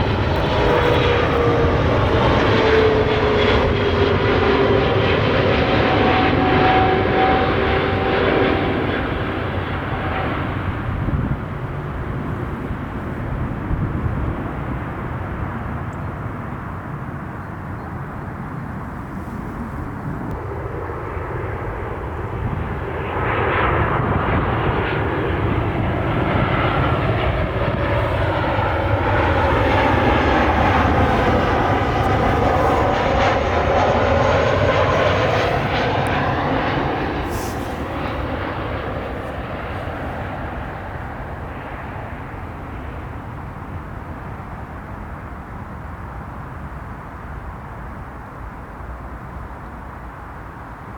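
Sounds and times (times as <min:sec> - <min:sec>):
jet engines passing: 0:00.0 - 0:46.5.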